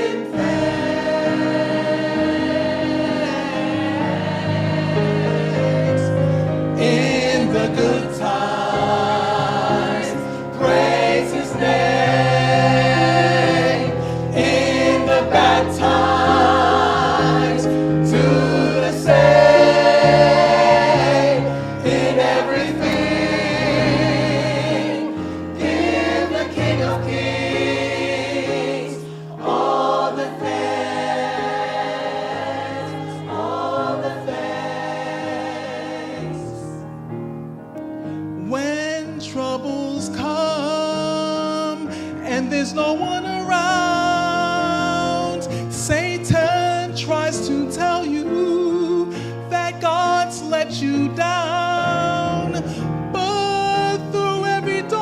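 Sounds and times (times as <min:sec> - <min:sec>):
church choir singing: 0:00.0 - 0:37.3, 0:38.4 - 0:55.0.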